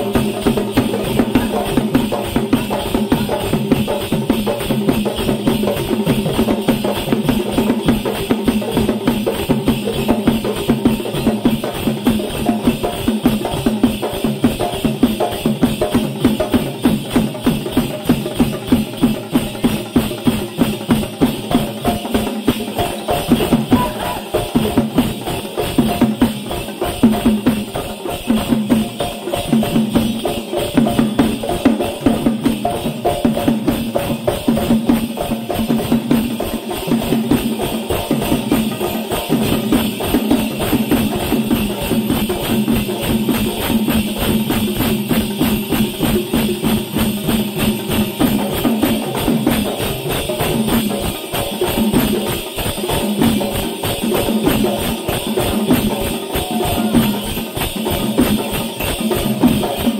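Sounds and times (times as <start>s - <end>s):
ankle bells jingling: 0.0s - 59.9s
barrel drums beaten with sticks: 0.0s - 59.9s.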